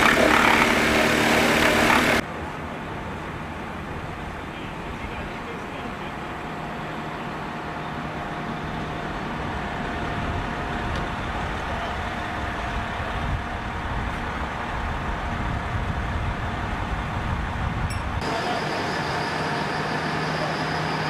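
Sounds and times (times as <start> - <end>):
heavy vehicle engines idling: 0.0 - 21.0.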